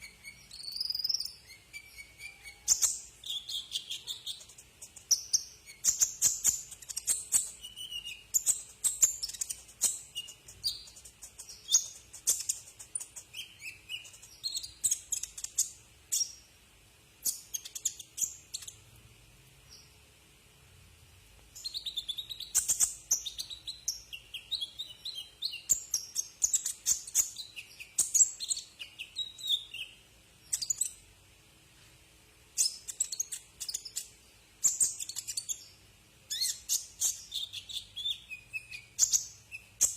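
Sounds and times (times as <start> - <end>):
sunbird chirping and trilling: 0.0 - 16.6, 17.2 - 18.9, 19.6 - 20.0, 21.6 - 31.0, 32.6 - 39.9.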